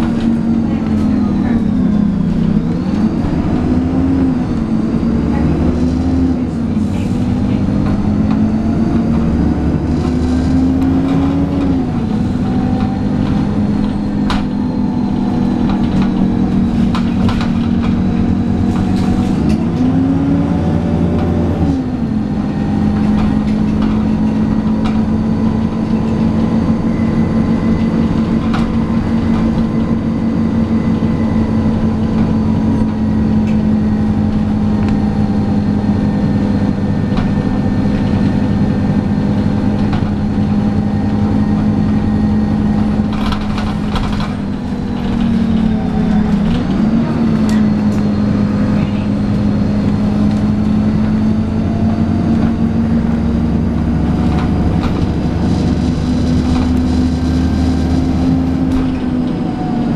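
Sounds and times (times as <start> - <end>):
bus engine drone: 0.0 - 59.9
interior clicks and rattles: 6.8 - 20.1, 22.3 - 59.6.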